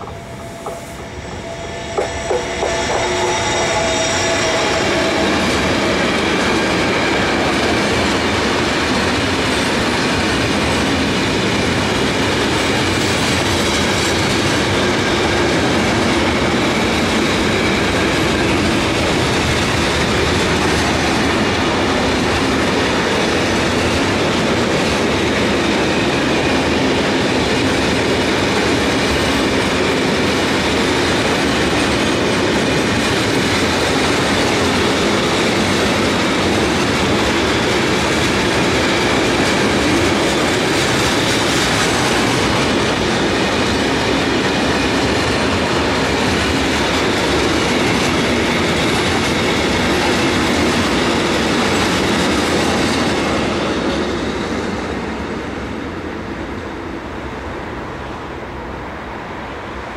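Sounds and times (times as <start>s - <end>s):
steel wheels rolling on rails: 0.0s - 54.8s
freight train passing: 0.0s - 59.9s.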